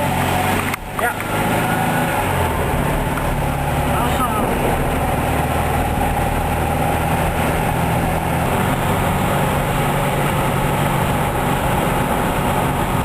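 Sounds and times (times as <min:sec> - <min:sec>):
car engine running inside cabin: 0:00.0 - 0:13.0.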